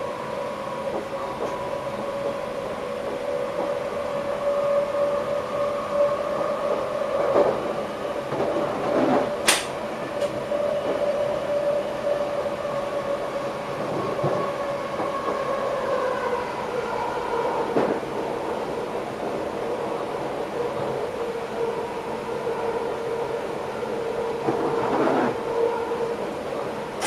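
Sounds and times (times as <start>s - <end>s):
train rolling noise: 0.0s - 27.0s.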